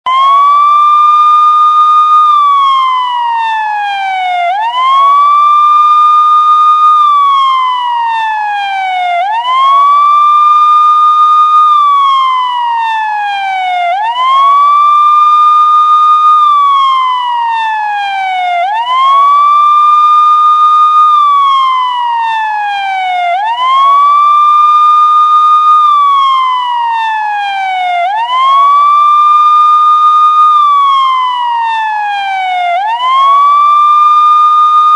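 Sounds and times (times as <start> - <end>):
police siren wailing: 0.0 - 34.9.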